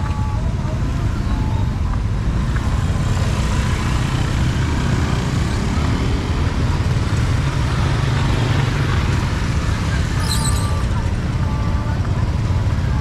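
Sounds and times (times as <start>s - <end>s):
loud low street rumble: 0.0s - 13.0s.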